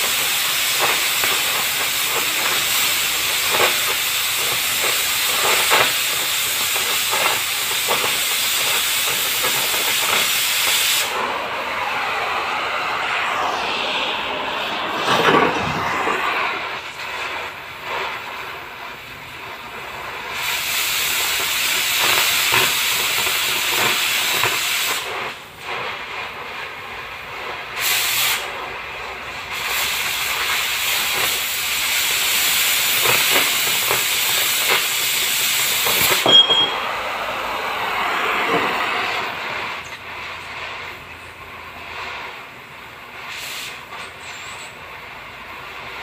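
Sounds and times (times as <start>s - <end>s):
cutting torch hissing: 0.0s - 46.0s.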